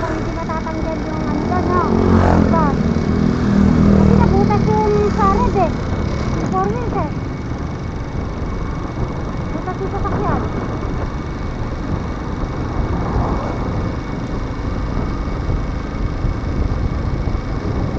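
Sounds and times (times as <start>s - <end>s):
wind and road noise: 0.0s - 17.9s.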